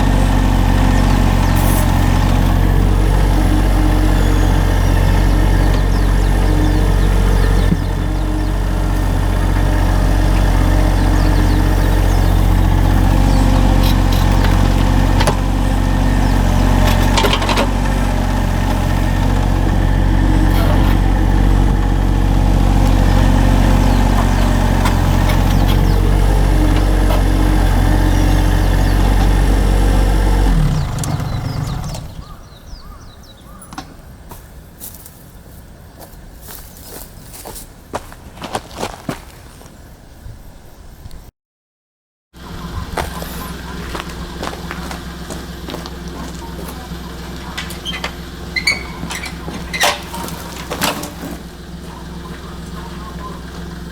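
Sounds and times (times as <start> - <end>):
engine running and winding down: 0.0 - 32.6, 42.4 - 53.9.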